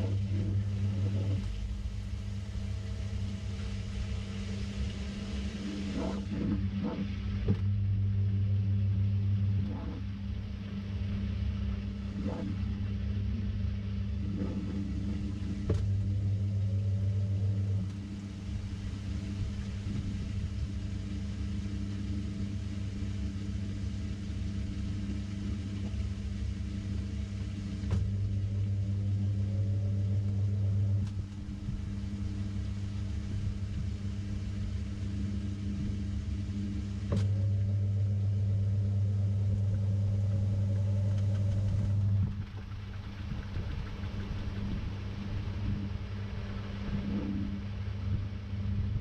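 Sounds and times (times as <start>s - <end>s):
washing machine motor hum: 0.0s - 49.0s.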